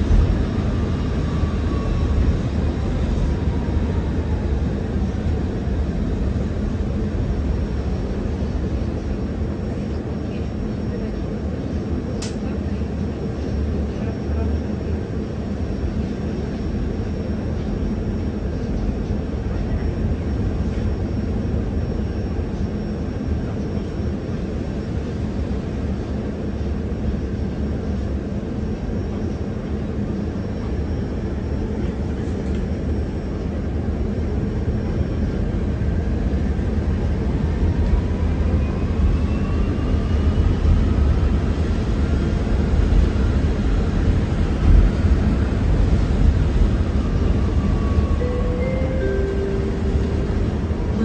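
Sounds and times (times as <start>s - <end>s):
bus cabin low rumble: 0.0s - 51.0s.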